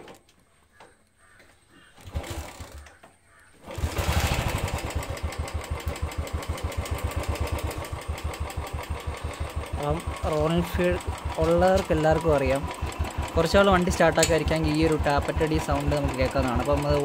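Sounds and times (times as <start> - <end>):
engine tappet noise: 2.0 - 17.0
motorcycle engine kick-started: 2.0 - 17.0.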